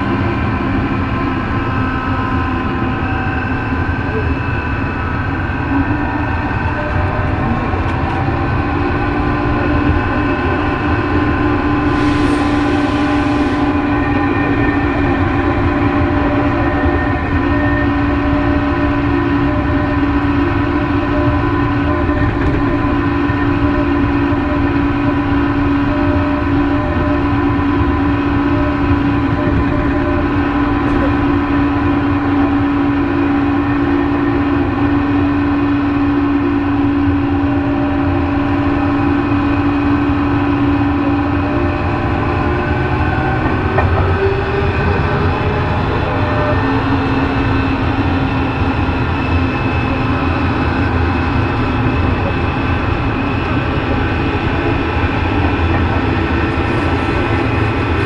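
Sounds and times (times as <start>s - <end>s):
subway car rumble with motor whine: 0.0s - 58.0s.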